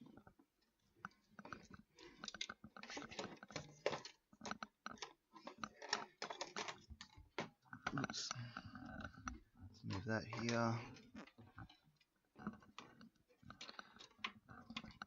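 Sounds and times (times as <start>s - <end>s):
plastic and metal parts clicking: 0.0s - 15.0s.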